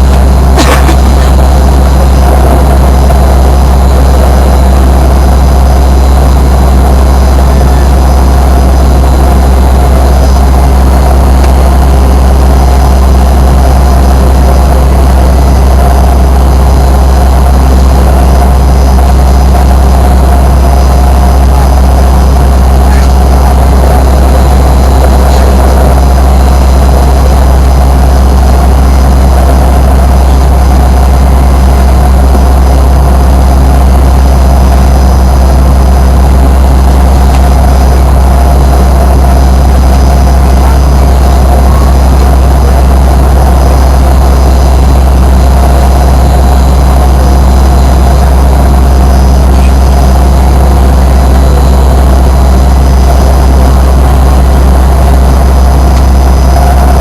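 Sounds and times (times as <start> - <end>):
jet engines droning in cabin: 0.0 - 57.0.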